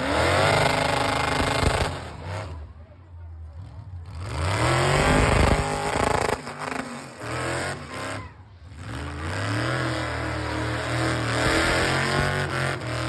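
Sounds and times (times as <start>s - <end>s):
car engine revving: 0.0s - 2.8s, 3.6s - 8.2s, 8.8s - 13.0s.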